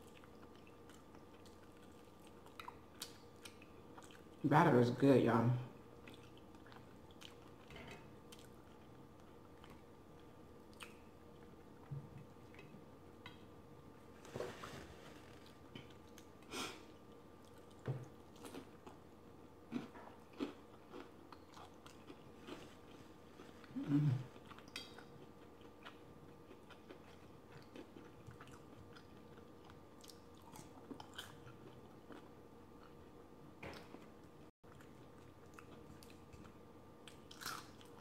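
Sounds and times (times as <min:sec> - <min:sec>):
chewing fried food: 0:00.0 - 0:04.4, 0:05.8 - 0:13.4, 0:15.3 - 0:33.1, 0:33.7 - 0:38.0.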